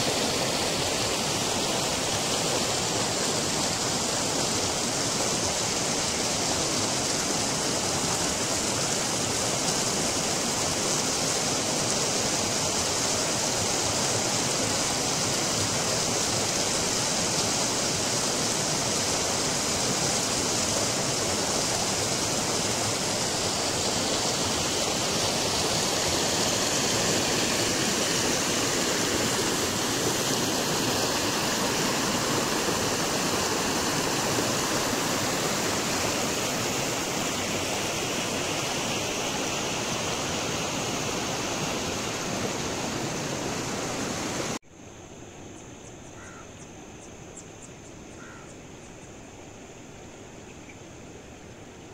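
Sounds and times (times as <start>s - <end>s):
waterfall splashing: 0.0s - 44.6s.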